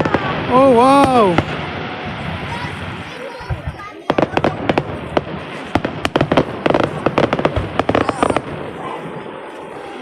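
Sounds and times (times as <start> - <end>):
fireworks bangs and pops: 0.0 - 9.8.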